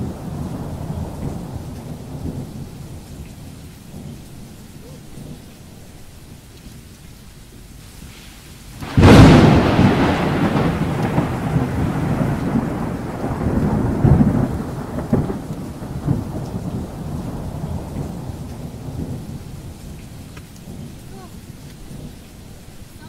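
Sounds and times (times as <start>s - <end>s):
heavy rain hitting a car: 0.0s - 23.0s
thunderclap and rolling rumble: 0.0s - 23.0s.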